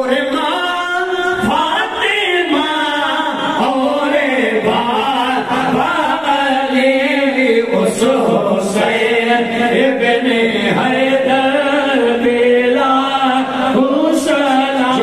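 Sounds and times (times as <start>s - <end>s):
men chanting together: 1.4s - 15.0s.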